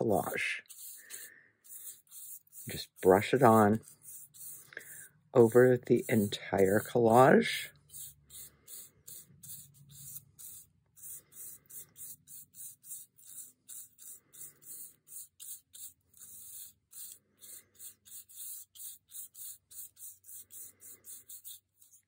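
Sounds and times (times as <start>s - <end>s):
brush scrubbing paper: 0.0s - 22.0s.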